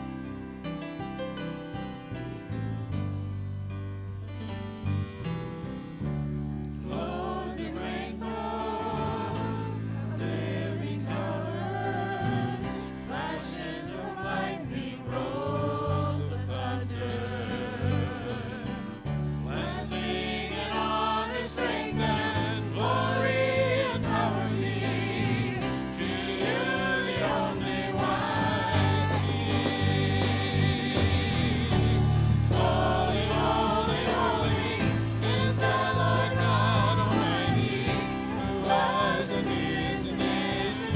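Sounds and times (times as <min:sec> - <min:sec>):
bass and keyboard accompaniment: 0:00.0 - 0:40.9
group singing gospel praise song: 0:06.8 - 0:40.9.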